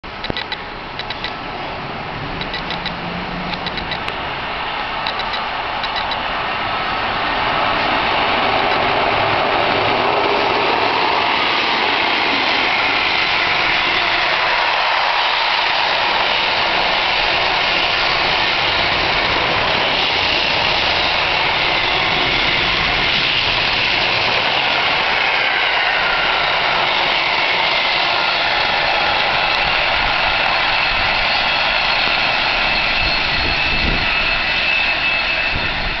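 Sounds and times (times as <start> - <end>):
train wheels clattering on rail: 0.2 - 1.4, 2.4 - 4.2, 5.0 - 6.3, 7.4 - 34.0.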